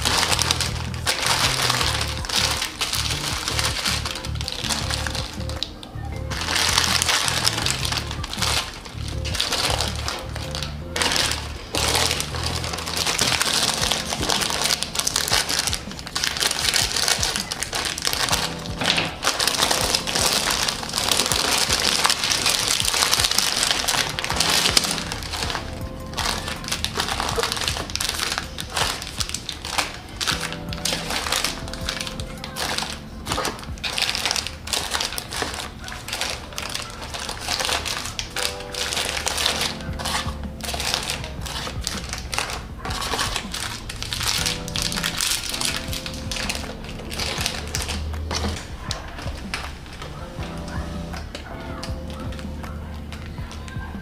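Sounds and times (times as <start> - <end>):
snack wrappers crinkling: 0.0 - 54.0
soft background music: 0.0 - 54.0.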